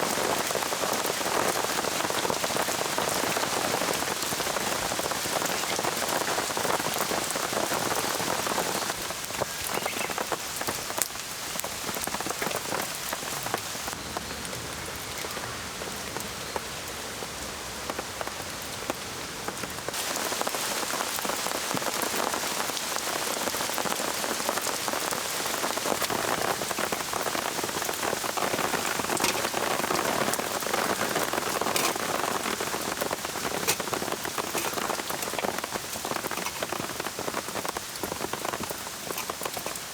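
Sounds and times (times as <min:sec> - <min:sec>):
raindrops tapping close by: 0:00.0 - 0:39.9
steady rain falling: 0:00.0 - 0:39.9.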